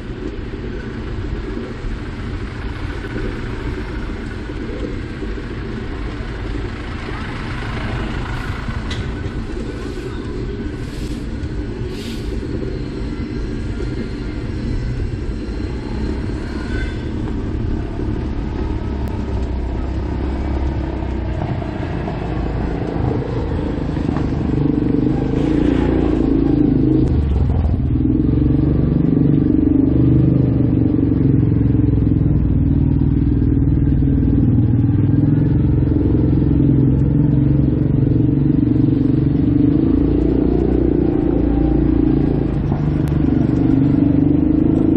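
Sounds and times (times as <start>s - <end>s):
vehicle engine running: 0.0s - 44.9s
wind rumble on microphone: 0.0s - 44.9s.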